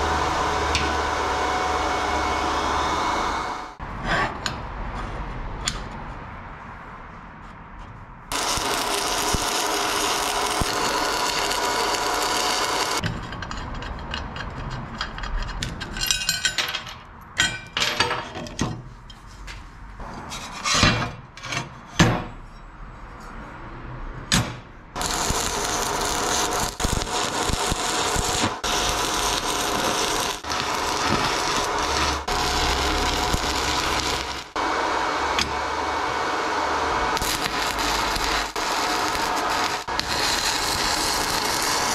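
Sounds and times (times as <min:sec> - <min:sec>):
workshop noise: 0:00.0 - 0:41.9.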